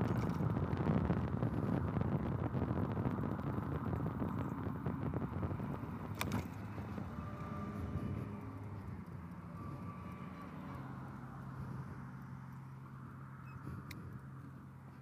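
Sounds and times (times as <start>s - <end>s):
wind buffeting microphone: 0.0s - 12.6s
faint steady whine: 0.0s - 15.0s.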